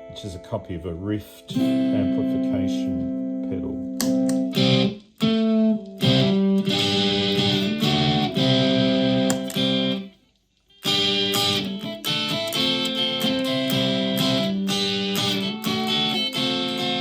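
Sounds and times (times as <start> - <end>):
electric ukulele strummed chords: 0.0 - 10.1, 10.8 - 17.0.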